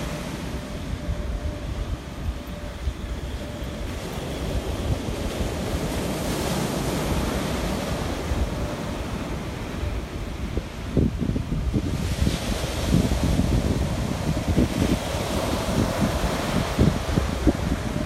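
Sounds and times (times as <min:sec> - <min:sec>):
surf breaking on a beach: 0:00.0 - 0:18.0
wind buffeting the microphone: 0:00.0 - 0:18.0.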